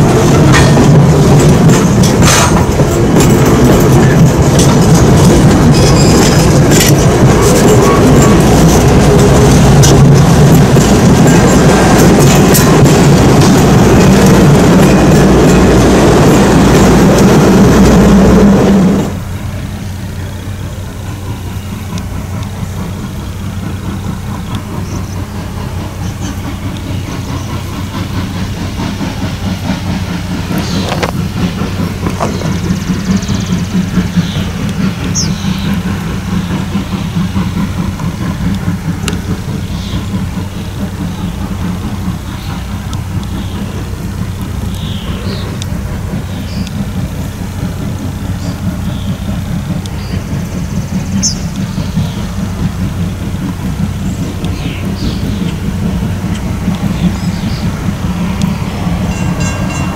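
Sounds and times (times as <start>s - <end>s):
distant steam locomotive working: 0.0s - 59.9s
train coaches rumbling past: 0.0s - 59.9s.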